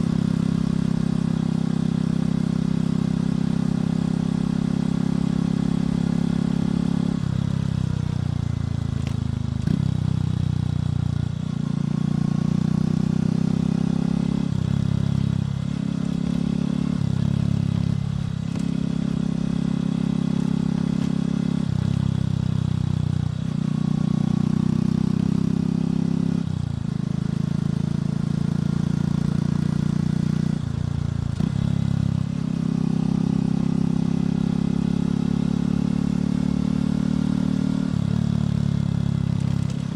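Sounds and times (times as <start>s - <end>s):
motorcycle engine shifting gears: 2.8s - 39.9s.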